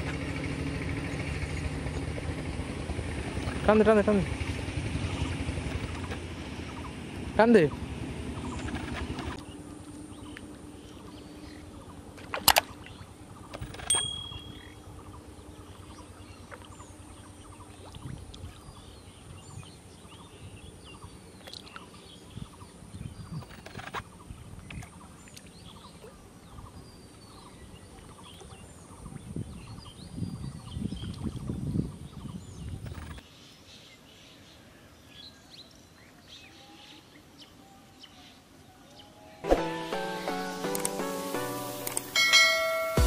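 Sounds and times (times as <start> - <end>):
small birds chirping: 1.0 - 39.4.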